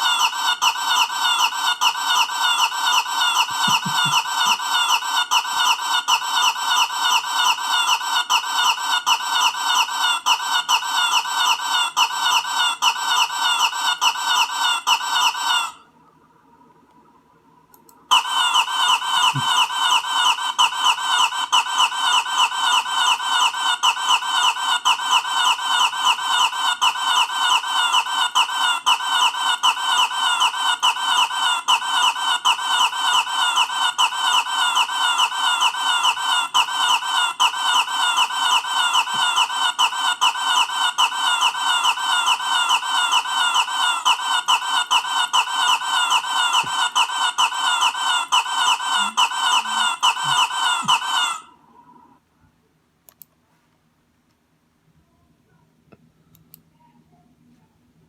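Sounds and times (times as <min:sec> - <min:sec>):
cartoon squawking chirp: 0:00.0 - 0:15.9, 0:18.1 - 0:51.6.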